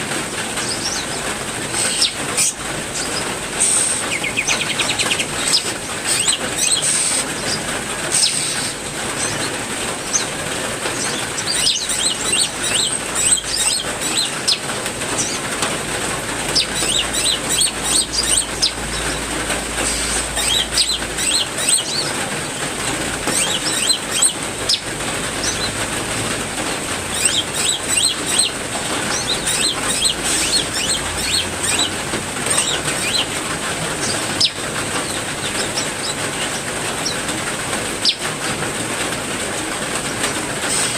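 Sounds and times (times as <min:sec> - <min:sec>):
heavy rain: 0:00.0 - 0:40.9
songbirds chirping: 0:00.4 - 0:38.9.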